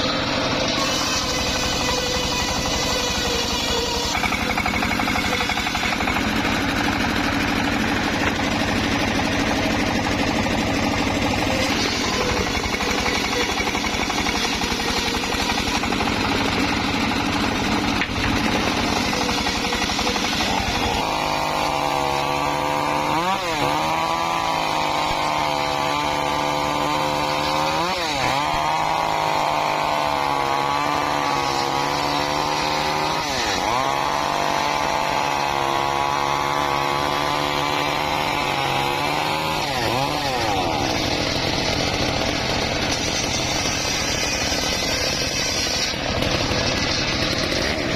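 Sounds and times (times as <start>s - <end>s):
engine-driven wood saw running: 0.0s - 47.9s.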